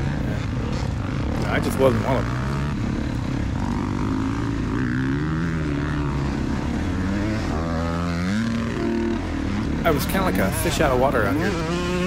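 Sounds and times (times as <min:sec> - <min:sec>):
two-stroke dirt bike engine: 0:00.0 - 0:12.0.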